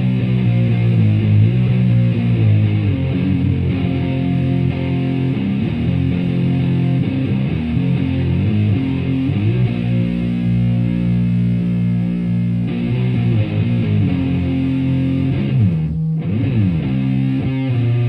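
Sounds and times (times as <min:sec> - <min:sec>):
heavy fuzzed electric guitar riff: 0:00.0 - 0:18.0
sustained guitar chord: 0:00.0 - 0:18.0.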